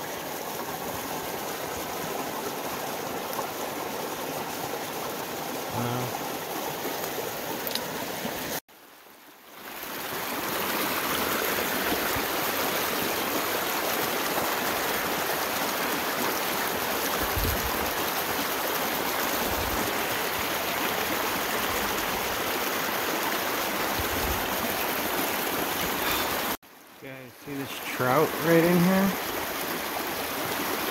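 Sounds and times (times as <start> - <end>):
creek babbling over rocks: 0.0 - 30.9.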